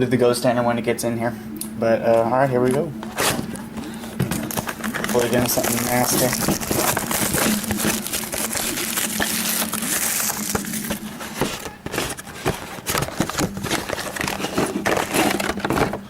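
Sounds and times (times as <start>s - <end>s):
packaging crinkling and tearing: 2.7s - 16.0s.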